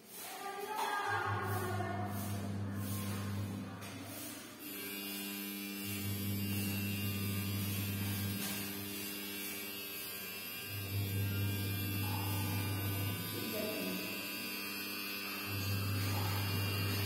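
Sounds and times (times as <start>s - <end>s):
buzzy electrical hum: 0.0s - 17.0s.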